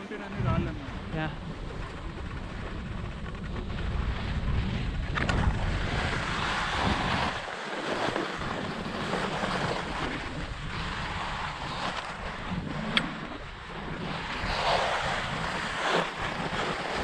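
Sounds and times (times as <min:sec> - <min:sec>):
skis scraping over snow: 0:00.0 - 0:13.4, 0:14.0 - 0:17.0
wind buffeting microphone: 0:00.0 - 0:17.0.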